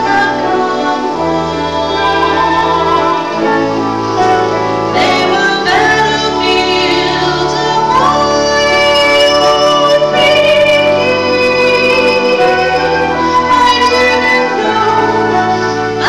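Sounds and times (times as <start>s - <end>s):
sustained instrumental accompaniment: 0.0s - 16.0s
woman singing: 0.0s - 16.0s.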